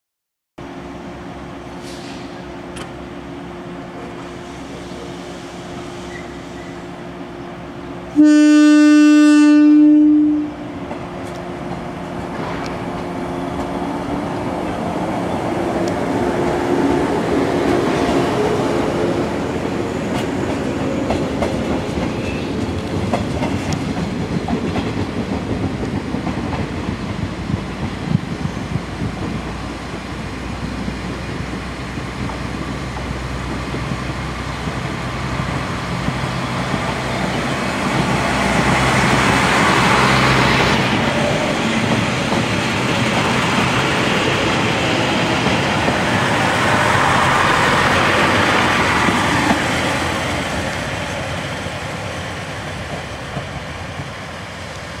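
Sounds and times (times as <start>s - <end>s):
diesel railcar engine humming: 0.6s - 55.0s.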